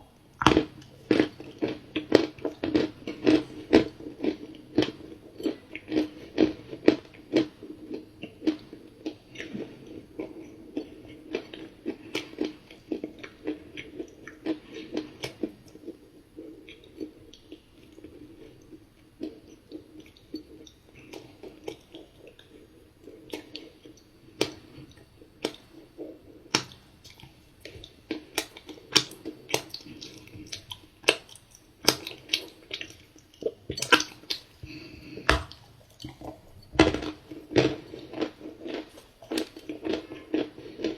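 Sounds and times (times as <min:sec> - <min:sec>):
cookie crunching: 0:00.2 - 0:40.9.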